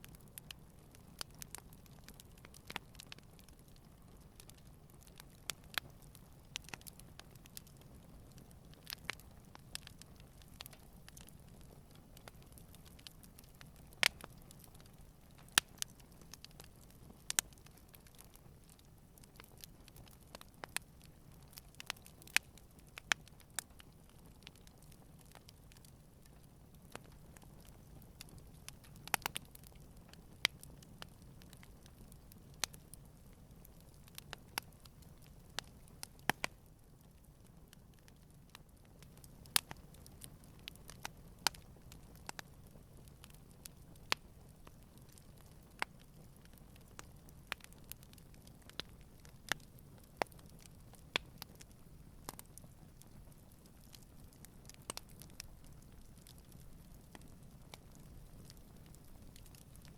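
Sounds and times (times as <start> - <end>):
campfire wood crackling: 0.0 - 59.9
low rumble of burning: 0.0 - 59.9.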